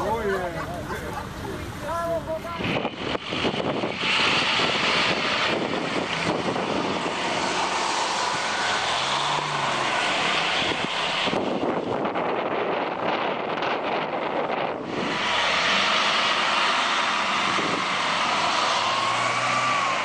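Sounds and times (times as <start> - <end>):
off-road engines running hard: 0.0 - 20.0.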